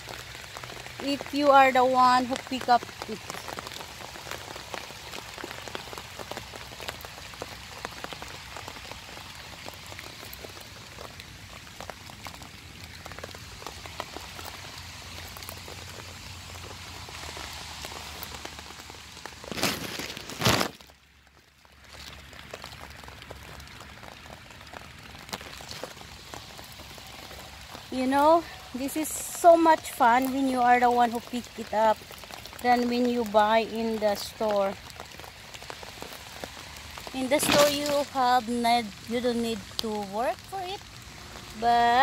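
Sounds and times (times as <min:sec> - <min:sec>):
light rain pattering: 0:00.0 - 0:42.0.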